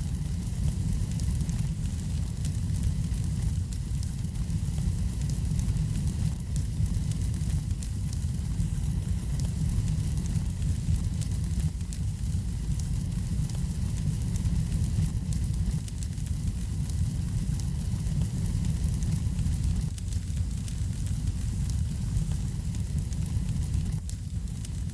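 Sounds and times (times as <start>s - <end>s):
fire crackles and pops: 0.0s - 24.9s
wood fire rumbling: 0.0s - 24.9s.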